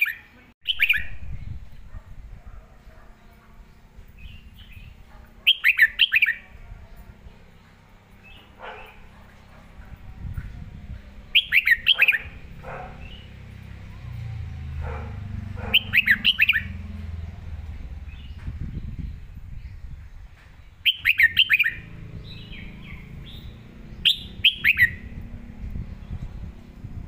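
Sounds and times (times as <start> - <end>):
bulbul singing: 0.0 - 1.8, 3.1 - 27.0.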